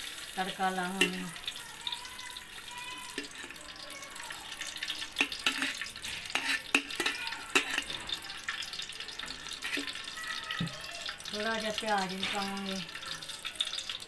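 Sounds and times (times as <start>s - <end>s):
liquid pouring into metal pot: 0.0s - 14.0s.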